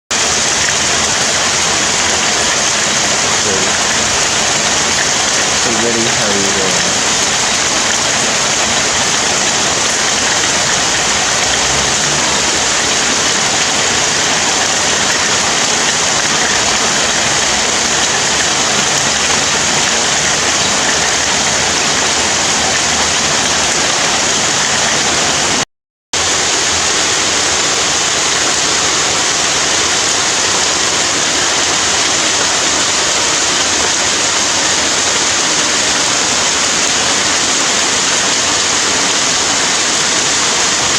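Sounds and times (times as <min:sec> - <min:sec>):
heavy rain falling: 0:00.1 - 0:25.6, 0:26.2 - 0:40.9.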